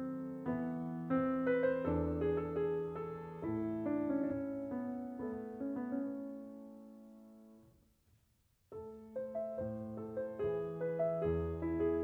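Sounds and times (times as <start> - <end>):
piano music: 0.0 - 7.8, 8.7 - 12.0.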